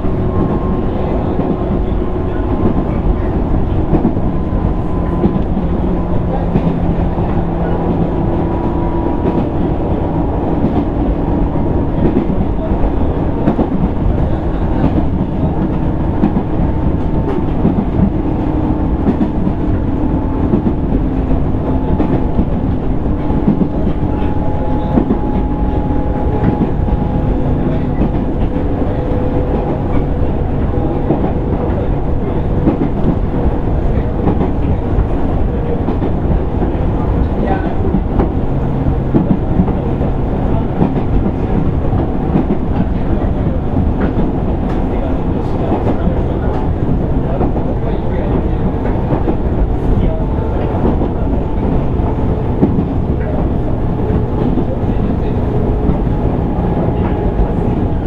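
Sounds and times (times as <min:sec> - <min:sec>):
rail joint clicks: 0:00.0 - 0:58.0
train wheels rumbling on rail: 0:00.0 - 0:58.0.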